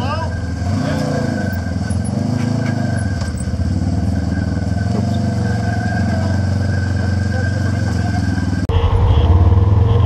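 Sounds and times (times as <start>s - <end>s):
utility vehicle engine at low revs: 0.0s - 10.0s.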